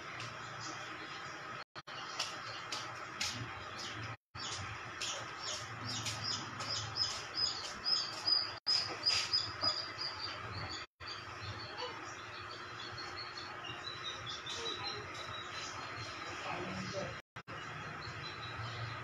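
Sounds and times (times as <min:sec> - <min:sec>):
small bird chirping: 0:00.2 - 0:19.0.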